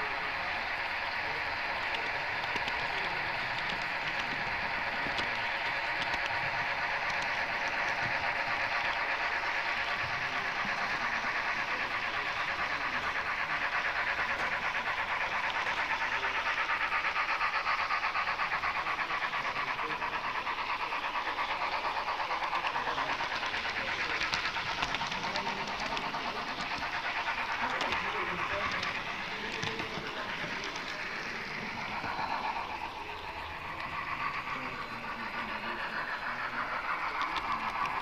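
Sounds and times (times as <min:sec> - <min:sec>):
model train rattling: 0:00.0 - 0:38.0.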